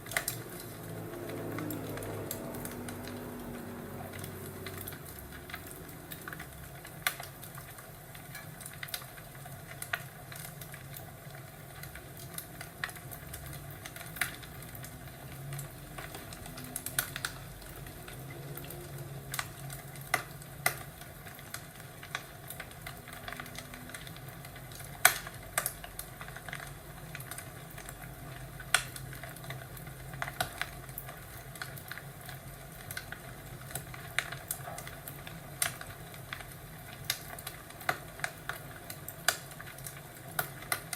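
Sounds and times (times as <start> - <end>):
fireplace crackling and popping: 0.0 - 40.9.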